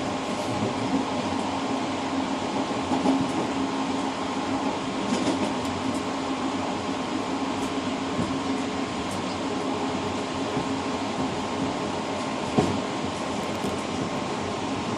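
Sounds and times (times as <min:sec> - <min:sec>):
train rumbling and rolling: 0:00.0 - 0:14.9.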